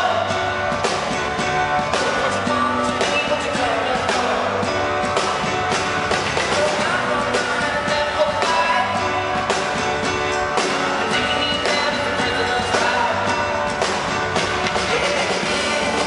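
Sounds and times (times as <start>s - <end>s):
live pop band with keyboards and drums: 0.0s - 16.0s.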